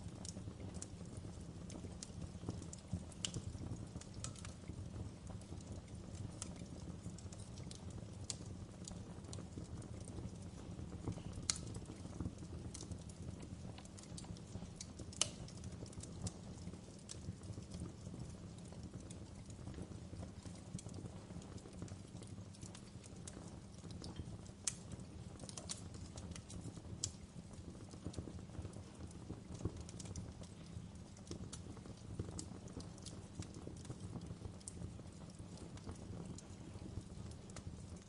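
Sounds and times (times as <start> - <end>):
sharp pops and snaps of fire: 0.0 - 38.0
wood fire crackling: 0.0 - 38.0.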